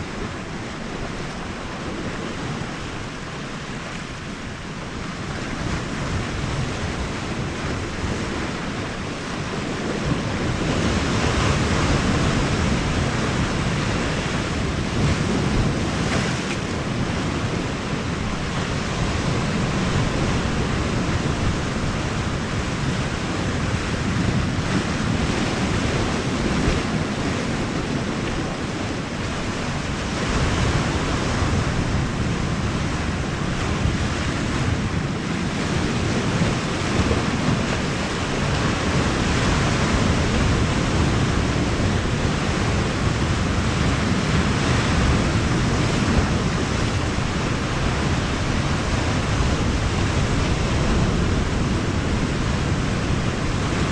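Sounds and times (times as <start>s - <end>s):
sea surf washing on shore: 0.0s - 53.9s
wind buffeting microphone: 0.0s - 53.9s.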